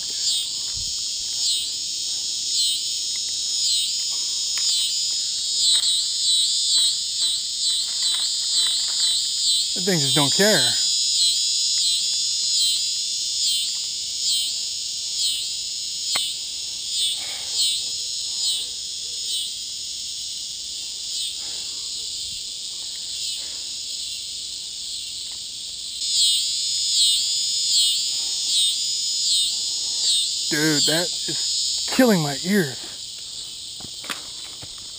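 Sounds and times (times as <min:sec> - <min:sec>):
cicada buzzing: 0:00.0 - 0:34.9.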